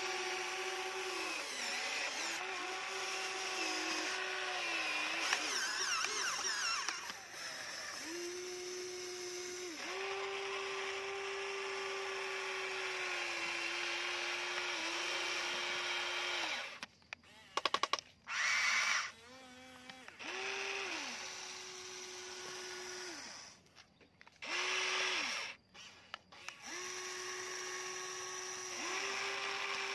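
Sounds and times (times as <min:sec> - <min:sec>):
toy excavator motors whining: 0:00.0 - 0:29.9.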